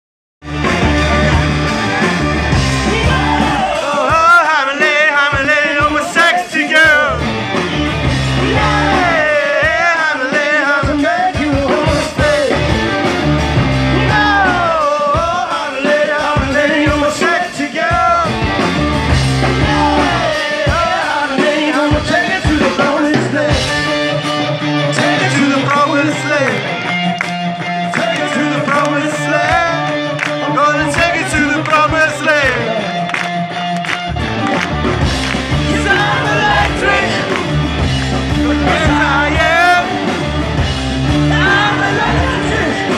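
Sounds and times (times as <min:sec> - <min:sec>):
hard rock band playing live: 0:00.4 - 0:42.9.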